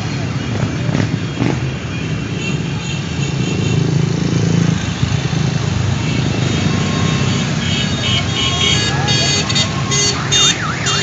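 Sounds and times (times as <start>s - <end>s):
motorcycle engines rumbling past: 0.0s - 11.0s.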